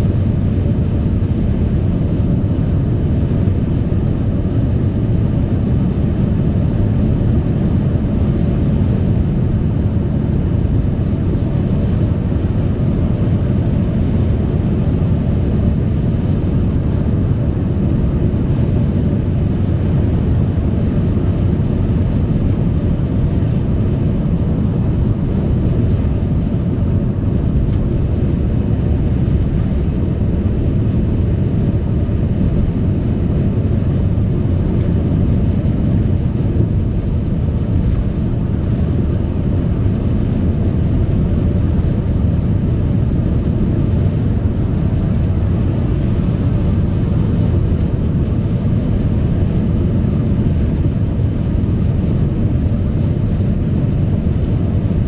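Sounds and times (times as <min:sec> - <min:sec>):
tyre and road noise: 0:00.0 - 0:55.0
wind: 0:00.0 - 0:55.0.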